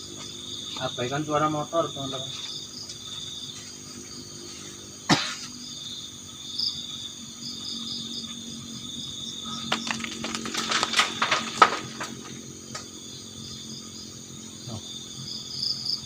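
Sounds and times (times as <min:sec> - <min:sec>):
crickets and insects chirring: 0:00.0 - 0:16.0.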